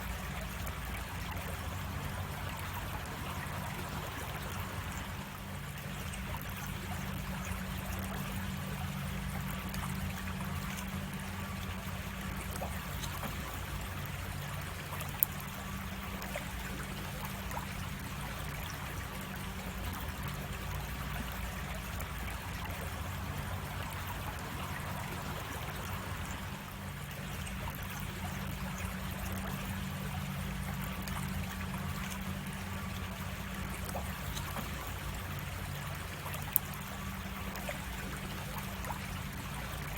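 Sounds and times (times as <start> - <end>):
creek water trickling: 0.0 - 39.9
low hum: 0.0 - 39.9.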